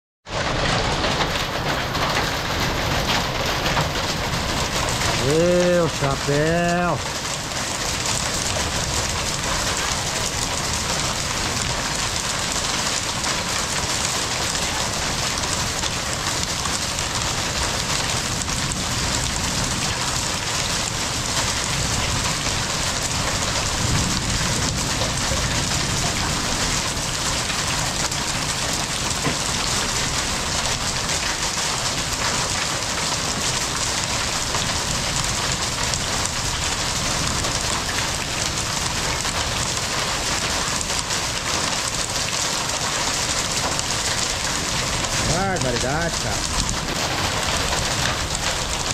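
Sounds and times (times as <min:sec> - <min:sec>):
heavy rain pouring: 0:00.2 - 0:48.9.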